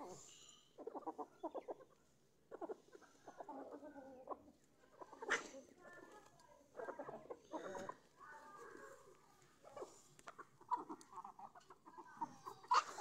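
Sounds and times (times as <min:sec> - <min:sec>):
hens clucking quietly: 0:00.0 - 0:13.0.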